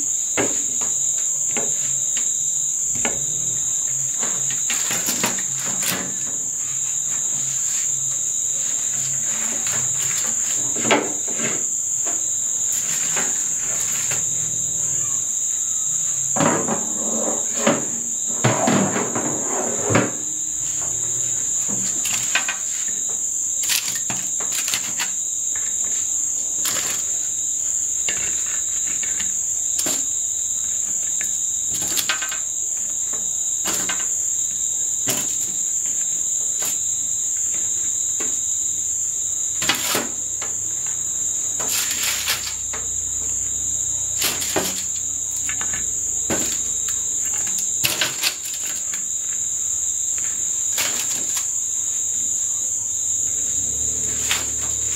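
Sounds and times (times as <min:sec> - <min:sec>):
insect chorus chirring: 0:00.0 - 0:54.9.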